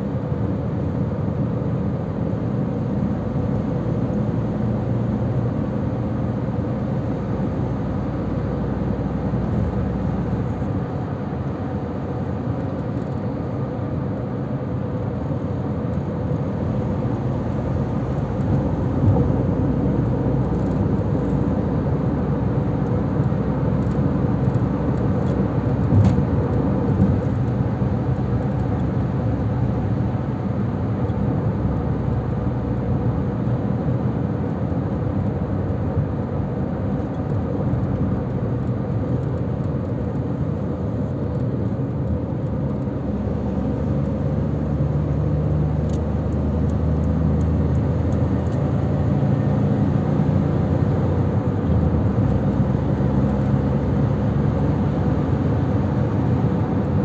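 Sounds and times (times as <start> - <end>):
car road noise from cabin: 0.0 - 57.0
low engine hum: 0.0 - 57.0.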